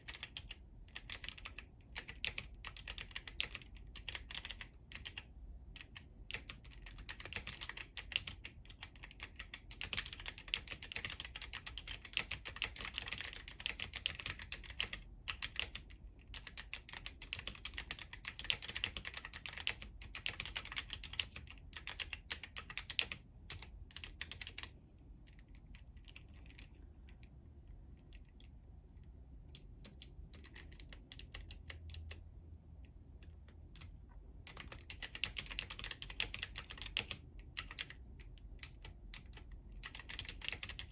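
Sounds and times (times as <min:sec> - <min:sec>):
mechanical keyboard typing: 0:00.0 - 0:24.7, 0:25.3 - 0:27.3, 0:29.5 - 0:32.2, 0:33.2 - 0:40.9.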